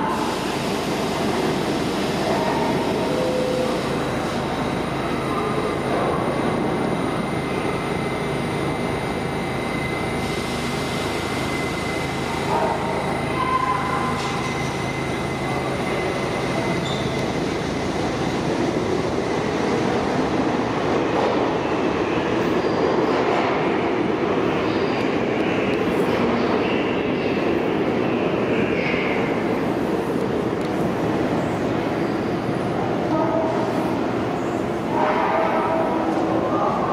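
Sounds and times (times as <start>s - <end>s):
subway train running: 0.0s - 36.9s.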